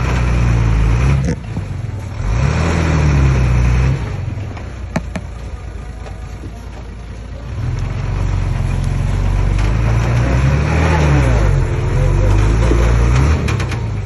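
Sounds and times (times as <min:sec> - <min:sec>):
bulldozer diesel engine revving: 0:00.0 - 0:14.0.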